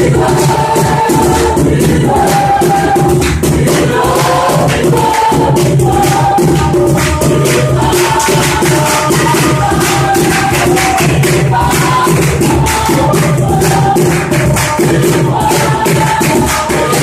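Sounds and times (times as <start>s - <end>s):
choir singing in unison: 0.0s - 17.0s
percussion beat: 0.0s - 17.0s.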